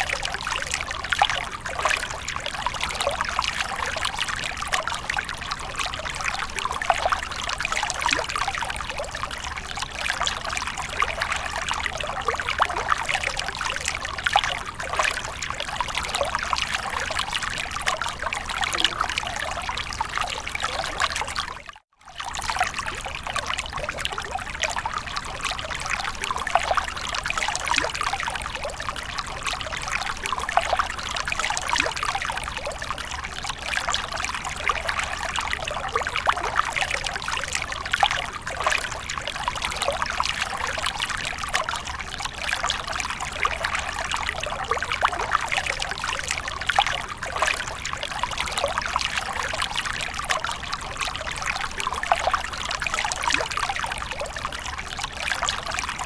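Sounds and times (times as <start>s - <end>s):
water splashing and trickling: 0.0s - 56.0s.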